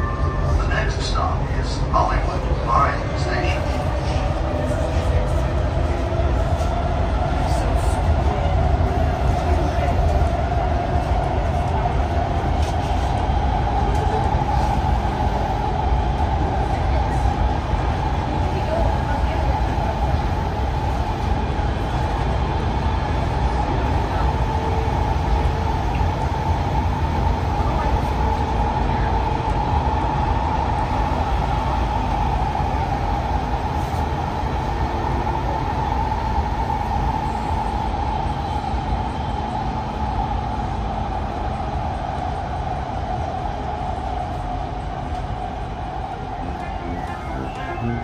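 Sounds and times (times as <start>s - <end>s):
metro train rumble: 0.0s - 48.0s.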